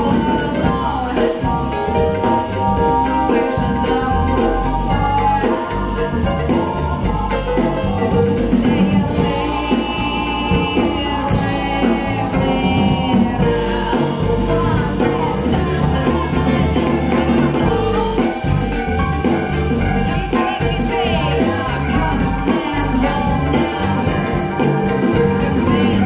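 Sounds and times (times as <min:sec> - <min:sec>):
song with singing over drums: 0:00.0 - 0:26.0.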